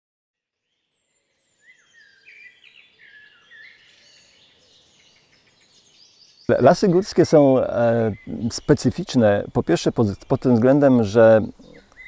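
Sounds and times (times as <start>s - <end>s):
faint songbirds singing: 0.4s - 12.0s.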